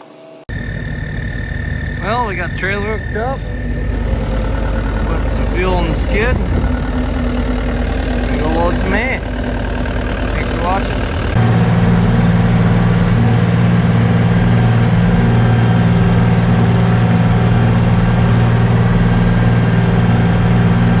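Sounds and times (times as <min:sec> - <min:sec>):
diesel engine running: 0:00.5 - 0:21.0.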